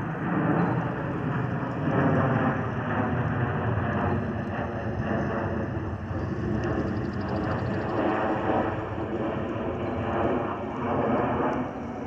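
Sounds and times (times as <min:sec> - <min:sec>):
jet airliner passing overhead: 0:00.0 - 0:12.0.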